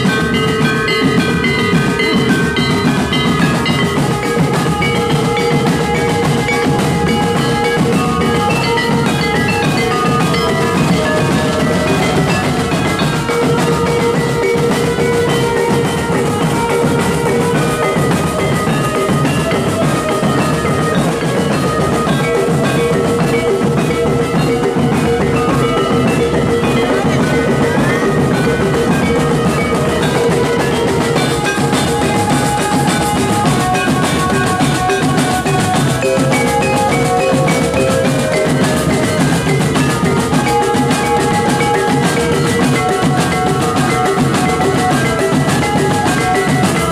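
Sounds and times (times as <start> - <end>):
marching drums: 0.0 - 46.9
melody of held notes: 0.0 - 46.9.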